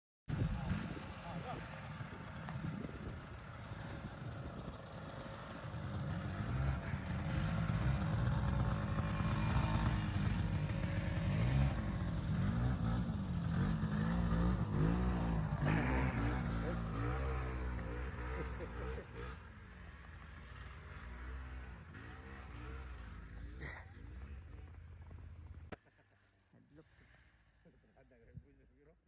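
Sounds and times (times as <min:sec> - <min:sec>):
snowmobile engine revving: 0:00.3 - 0:26.1.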